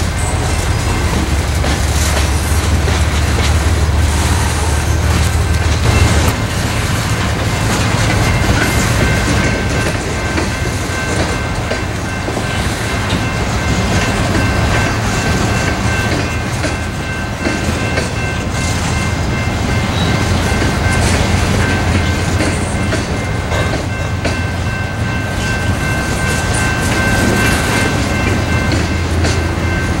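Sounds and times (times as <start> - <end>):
freight cars rumbling on rails: 0.0 - 30.0.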